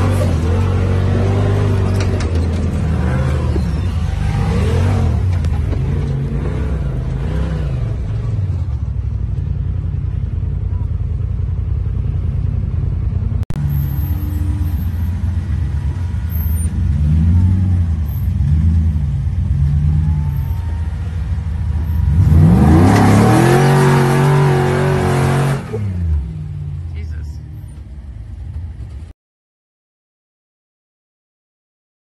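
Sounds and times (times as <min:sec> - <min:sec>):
off-road engine revving: 0:00.0 - 0:29.0.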